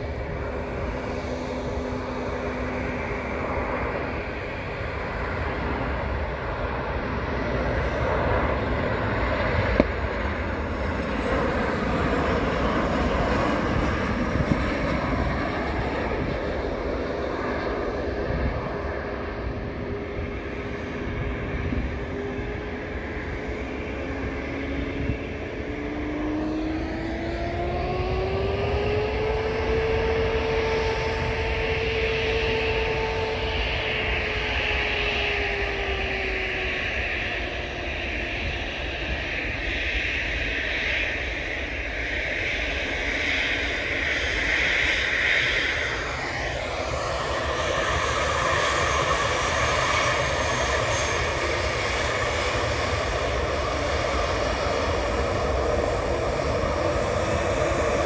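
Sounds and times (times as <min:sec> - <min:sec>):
jet engine rush: 0:00.0 - 0:58.0
jet engine whine rising: 0:00.0 - 0:58.0.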